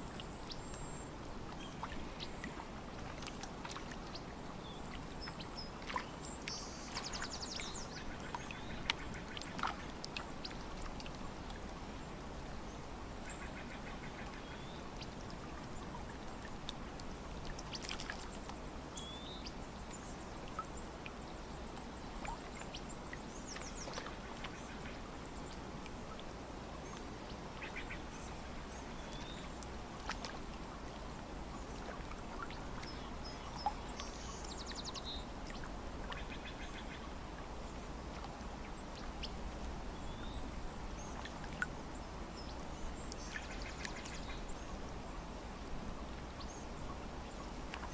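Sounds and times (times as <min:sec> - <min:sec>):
water lapping: 0:00.0 - 0:47.9.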